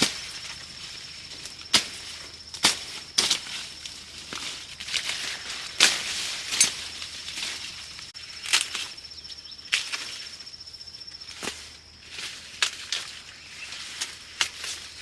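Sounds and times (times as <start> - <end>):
dry plants rustling: 0.0 - 15.0
pulsing insect trill: 0.0 - 15.0.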